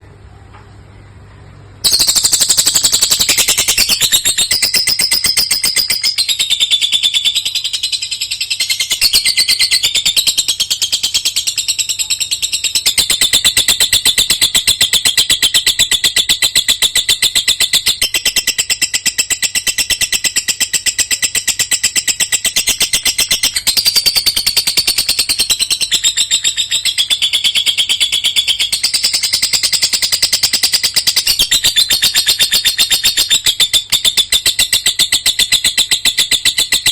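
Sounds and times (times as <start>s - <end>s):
lovebird chattering song: 1.8s - 36.9s.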